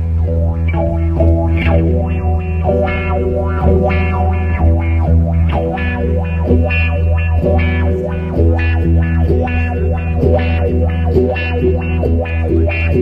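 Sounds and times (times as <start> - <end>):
distorted electric guitar: 0.0 - 13.0
held bass note: 0.0 - 13.0.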